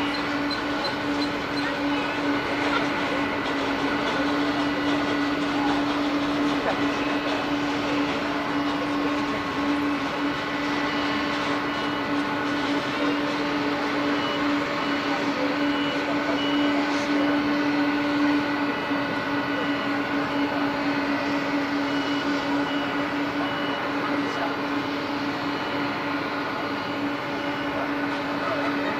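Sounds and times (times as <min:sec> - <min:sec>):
airliner engines whining: 0:00.0 - 0:28.9
faint reversing alarm beeps: 0:00.0 - 0:28.9.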